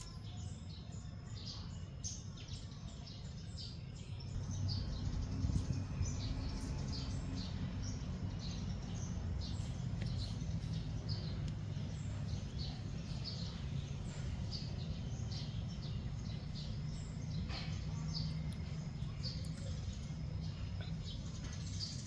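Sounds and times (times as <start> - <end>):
small birds chirping: 0.0 - 22.0
steady low rumble: 4.3 - 22.0.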